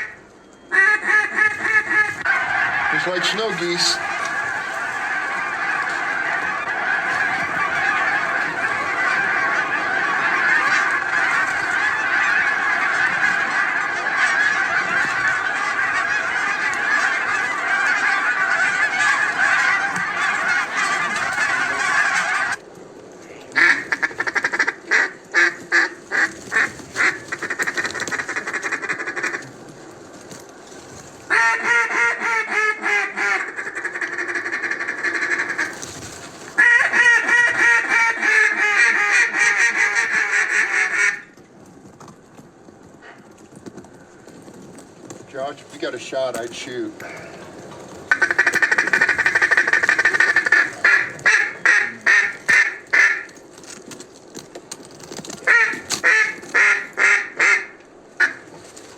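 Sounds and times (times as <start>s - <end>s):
geese honking: 0.0s - 22.6s, 23.5s - 30.1s, 30.7s - 41.4s, 44.2s - 53.6s, 55.0s - 58.8s.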